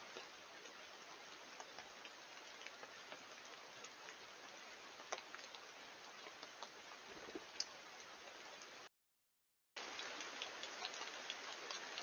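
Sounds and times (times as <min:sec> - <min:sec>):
faint steady hiss: 0:00.0 - 0:08.9, 0:09.8 - 0:12.0.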